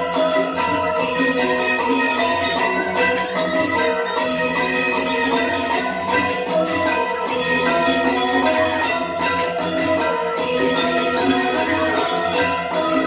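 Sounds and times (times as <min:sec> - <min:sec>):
light jingling percussion: 0:00.0 - 0:13.0
metallophones ringing: 0:00.0 - 0:13.0.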